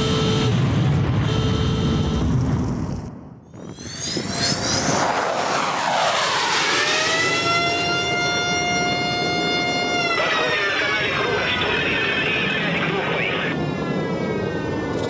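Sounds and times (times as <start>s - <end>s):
jet fighter taking off: 0.0s - 15.0s.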